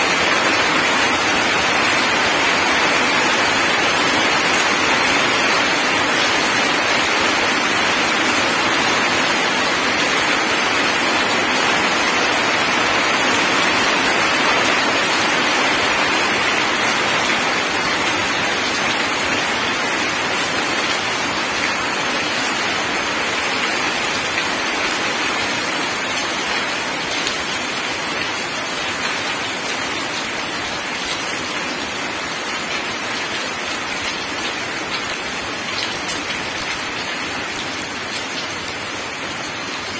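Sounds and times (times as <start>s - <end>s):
heavy rain on gravel and puddles: 0.0s - 39.9s.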